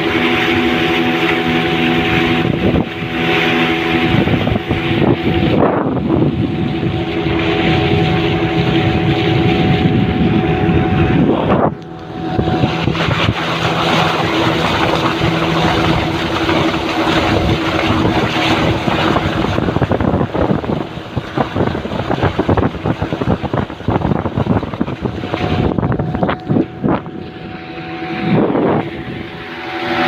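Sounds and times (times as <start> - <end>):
boat motor humming: 0.0 - 30.0
water noise: 0.0 - 30.0
wind buffeting: 0.0 - 30.0.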